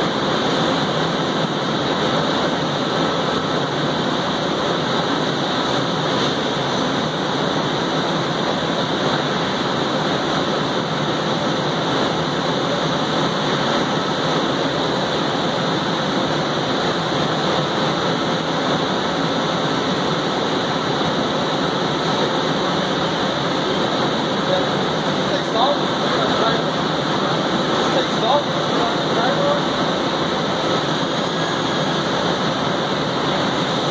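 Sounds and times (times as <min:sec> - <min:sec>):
lathe machine running: 0:00.0 - 0:33.9.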